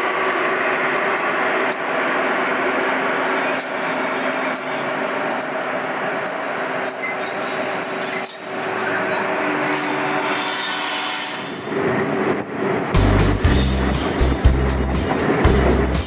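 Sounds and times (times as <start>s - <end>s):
train running past: 0.0s - 16.0s.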